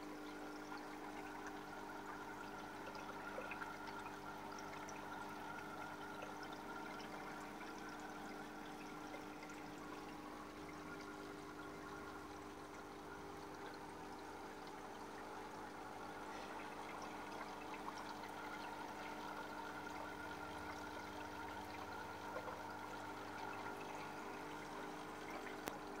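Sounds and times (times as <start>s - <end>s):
low pump hum: 0.0s - 26.0s
water trickling and splashing: 0.0s - 26.0s.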